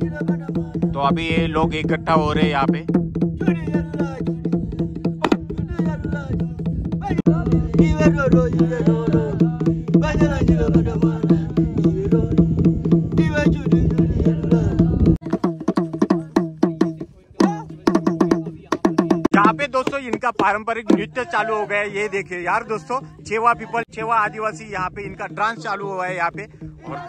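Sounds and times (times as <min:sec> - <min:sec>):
hand drum playing: 0:00.0 - 0:27.0
voices singing: 0:00.0 - 0:27.0.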